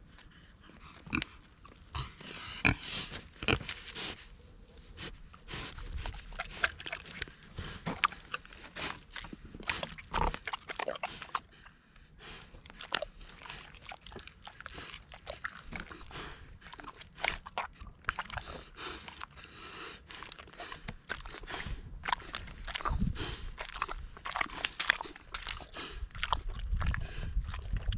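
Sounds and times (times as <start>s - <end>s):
pig chewing and chomping: 0.0s - 27.9s.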